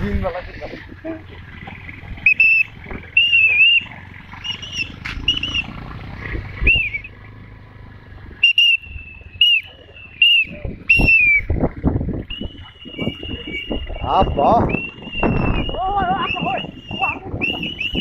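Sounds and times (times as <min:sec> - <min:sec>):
motorcycles rumbling on dirt road: 0:00.0 - 0:18.0.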